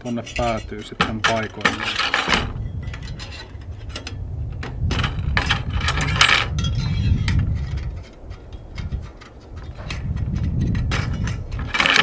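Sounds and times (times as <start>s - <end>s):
metal skewers clinking and scraping: 0.0s - 12.0s.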